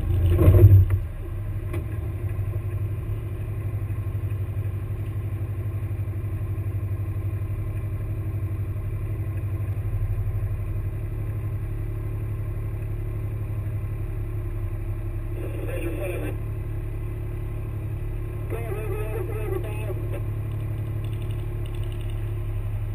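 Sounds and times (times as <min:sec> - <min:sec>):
vehicle engine idling: 0:00.0 - 0:22.9.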